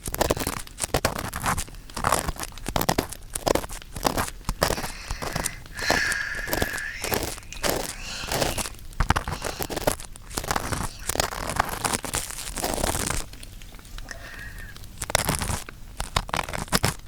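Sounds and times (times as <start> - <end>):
rustling and crinkling on microphone: 0.0 - 17.0.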